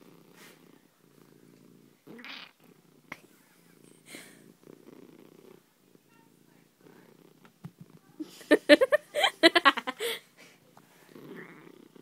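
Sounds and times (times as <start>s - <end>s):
cat purring: 0.0s - 8.7s, 10.8s - 12.0s.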